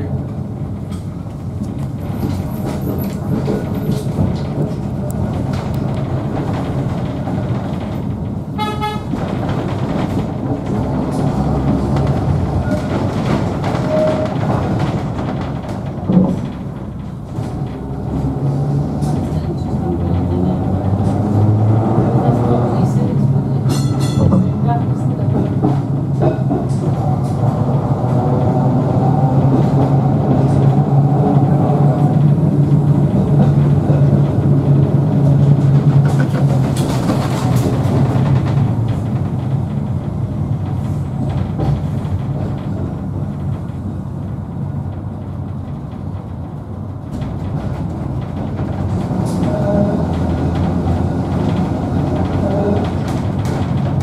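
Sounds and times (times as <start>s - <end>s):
tram wheels rumbling: 0.0s - 54.0s.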